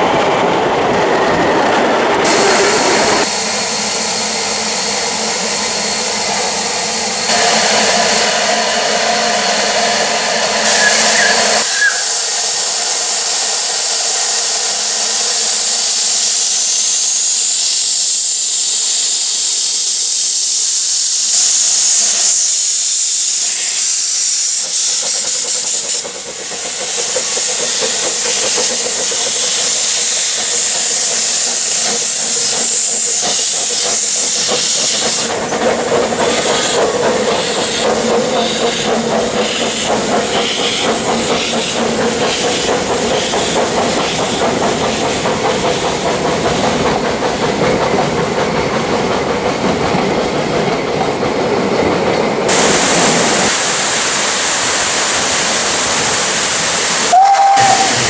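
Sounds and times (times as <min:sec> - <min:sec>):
steam locomotive hissing: 0:00.0 - 0:58.0.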